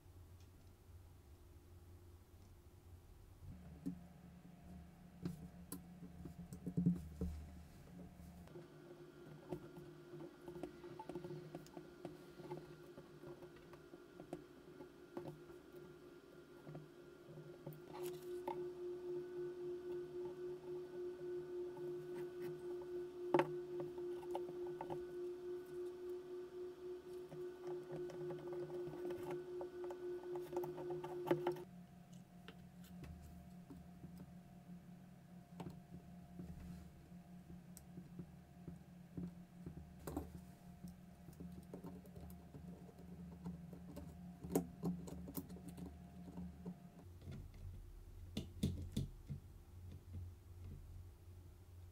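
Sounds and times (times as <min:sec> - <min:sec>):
low steady hum: 0:00.0 - 0:51.9
low steady tones: 0:03.1 - 0:47.0.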